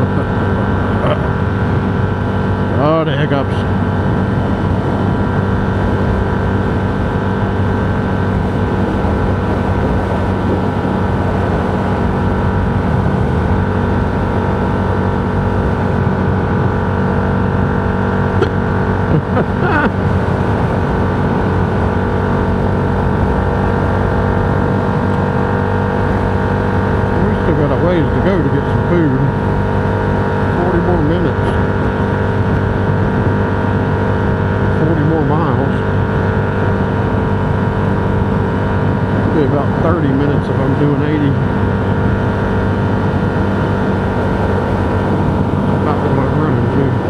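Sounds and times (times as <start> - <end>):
vehicle engine and road noise: 0.0 - 47.0.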